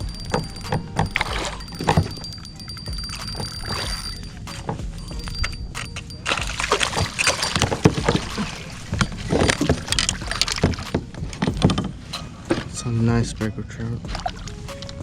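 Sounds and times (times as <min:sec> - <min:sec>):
knocks and rattles against kayak: 0:00.0 - 0:15.0
water splashing: 0:00.0 - 0:15.0.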